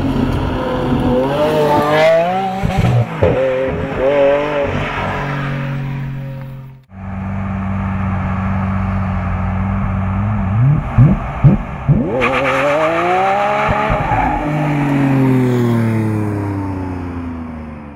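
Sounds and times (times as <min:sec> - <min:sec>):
sports car engine revving: 0:00.0 - 0:17.4.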